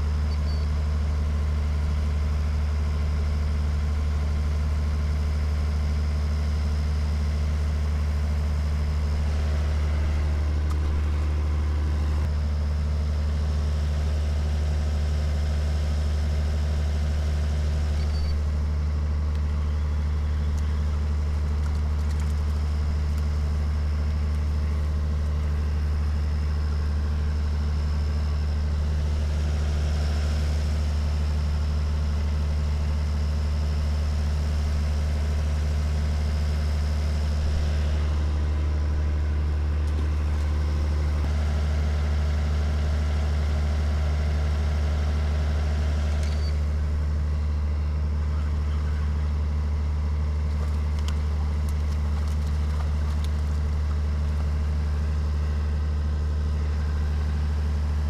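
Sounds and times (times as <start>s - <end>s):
low mechanical drone: 0.0s - 58.0s.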